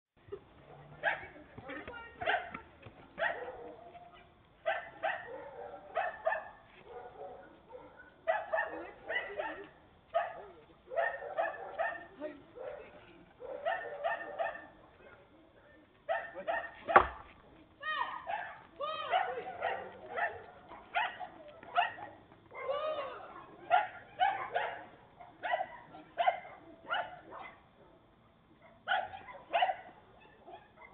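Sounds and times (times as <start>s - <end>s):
dog barking: 0.6s - 1.4s, 2.2s - 2.6s, 3.2s - 15.3s, 16.1s - 17.3s, 18.0s - 30.9s.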